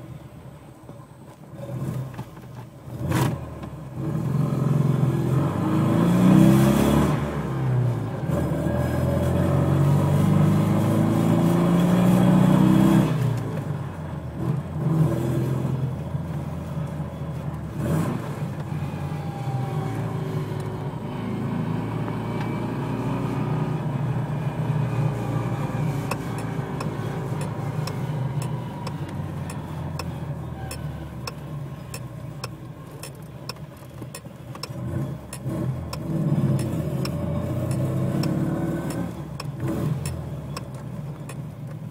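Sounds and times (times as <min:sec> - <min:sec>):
car engine revving: 0:02.9 - 0:13.4, 0:17.7 - 0:41.4.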